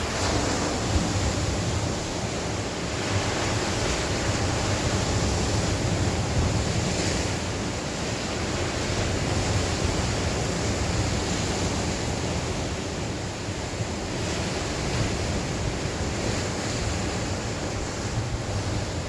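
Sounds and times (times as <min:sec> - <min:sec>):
sea waves washing on shore: 0:00.0 - 0:19.0
wind rumbling on microphone: 0:00.0 - 0:19.0.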